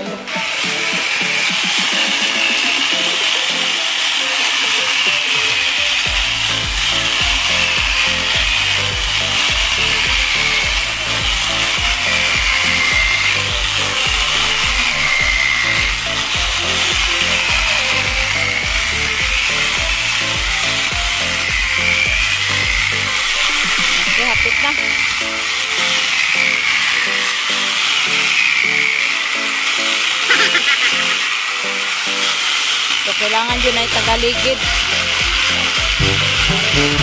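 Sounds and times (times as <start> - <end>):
background music with steady beat: 0.0 - 37.0
electric chainsaw cutting log: 0.0 - 37.0.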